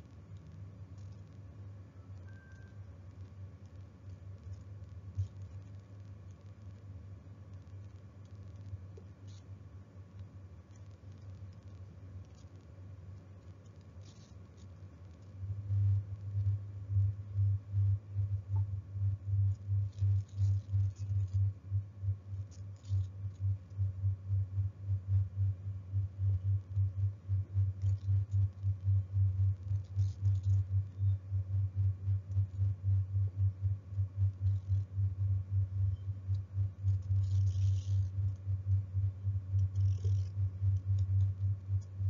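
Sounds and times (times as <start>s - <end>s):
faint scratchy sounds: 0.0s - 42.0s
low pulsing hum: 0.0s - 42.0s.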